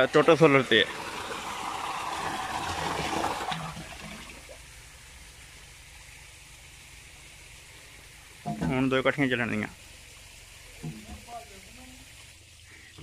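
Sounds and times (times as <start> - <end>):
water gushing into tank: 0.0 - 13.0.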